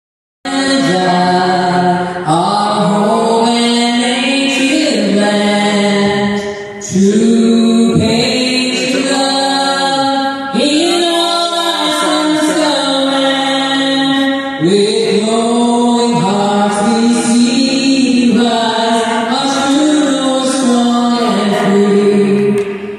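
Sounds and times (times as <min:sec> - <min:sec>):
person singing long held notes: 0:00.5 - 0:22.9.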